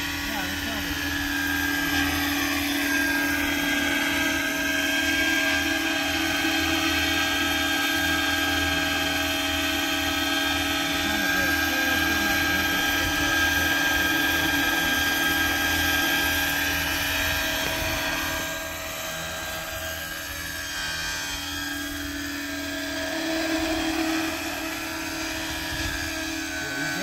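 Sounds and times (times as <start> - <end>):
model helicopter whine: 0.0 - 27.0.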